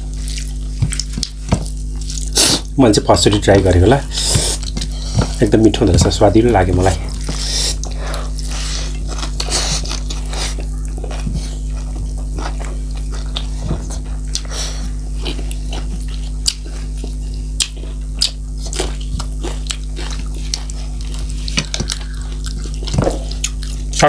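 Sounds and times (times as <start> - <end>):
chewing and biting food: 0.0 - 2.8, 3.4 - 24.0
steady low hum: 0.0 - 24.0.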